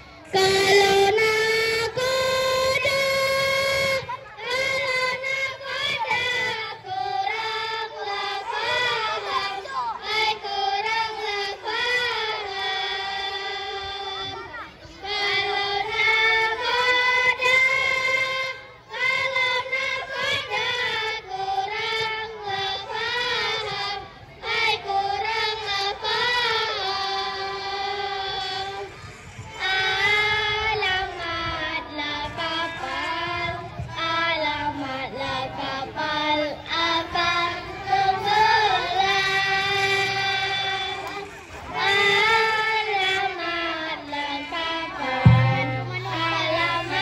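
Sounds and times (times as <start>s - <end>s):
child singing: 0.0s - 47.0s.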